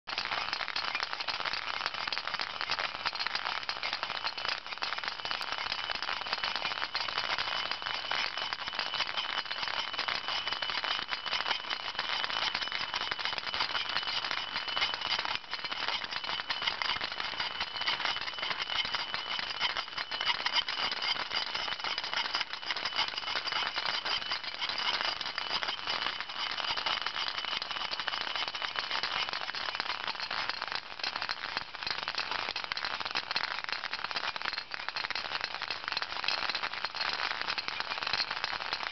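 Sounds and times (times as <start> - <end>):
balls rattling on metal: 0.0 - 38.9.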